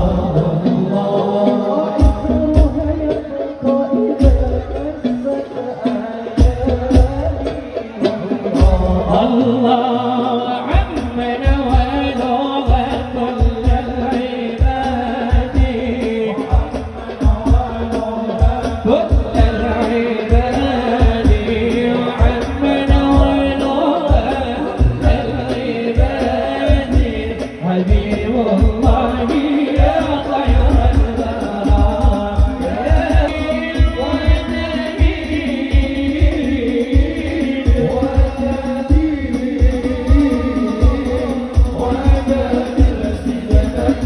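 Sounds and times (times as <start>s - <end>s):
frame drums beating: 0.0s - 44.0s
people singing devotional song: 0.0s - 44.0s.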